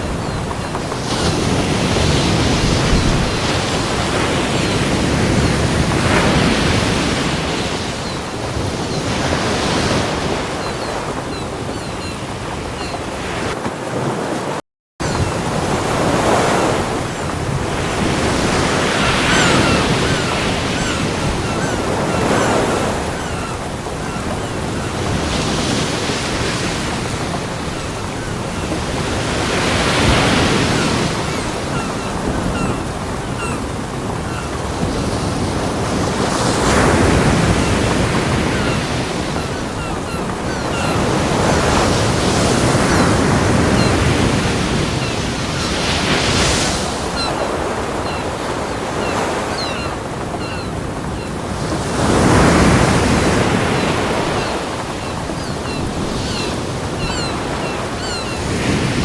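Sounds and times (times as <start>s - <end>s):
waves breaking on beach: 0.0s - 59.0s.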